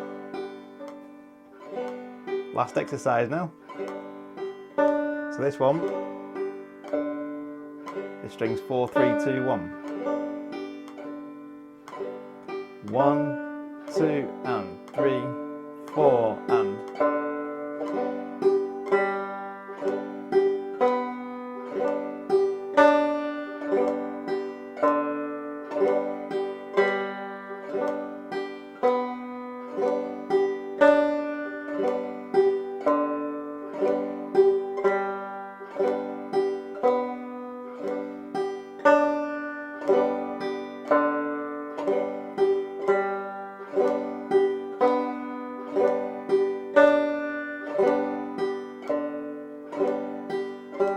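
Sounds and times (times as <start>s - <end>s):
banjo strumming: 0.0s - 50.9s.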